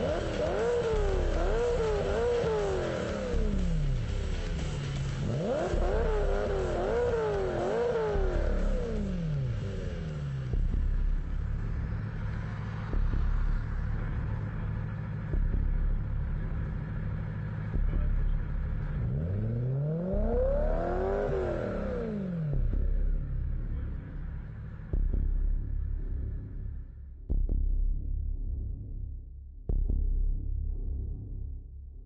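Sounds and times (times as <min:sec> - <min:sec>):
car engine revving: 0:00.0 - 0:29.1.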